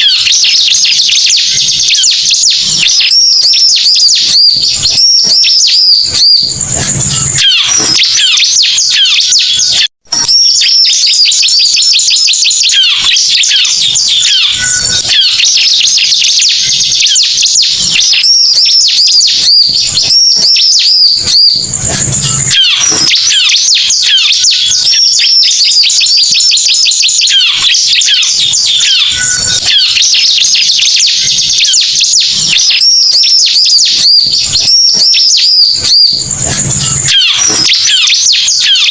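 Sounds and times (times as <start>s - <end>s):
bird chirps and trills: 0.0s - 38.9s.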